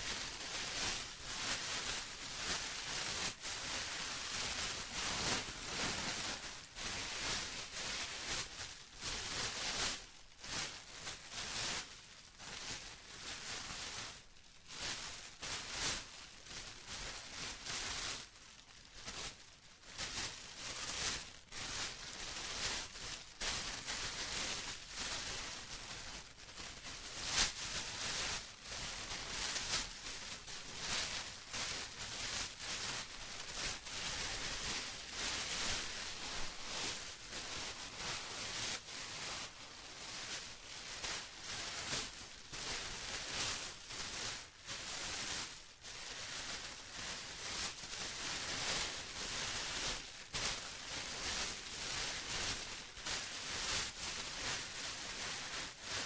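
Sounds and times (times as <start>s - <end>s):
plastic rustling and crinkling: 0.0s - 56.0s.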